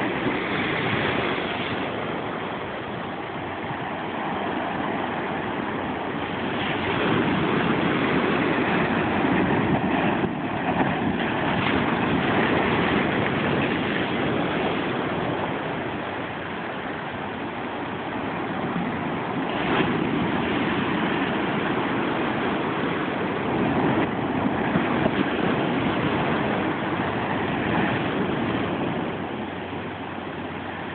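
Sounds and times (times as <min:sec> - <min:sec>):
ocean surf breaking on rocks: 0:00.0 - 0:30.9.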